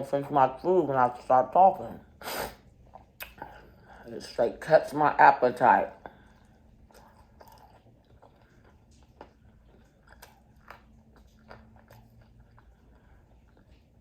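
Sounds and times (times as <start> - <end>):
chewing crispy food: 2.0 - 14.0.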